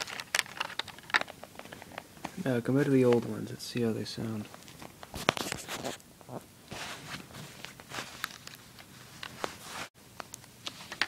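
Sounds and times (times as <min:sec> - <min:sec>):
earbuds handling rustle and clicks: 0:00.0 - 0:11.0.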